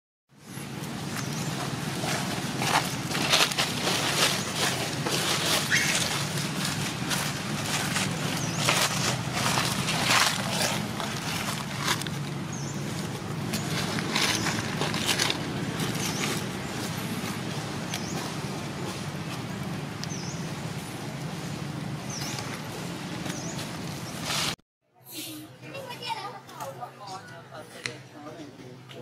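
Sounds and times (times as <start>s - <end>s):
dry leaves rustling: 0.5s - 24.6s.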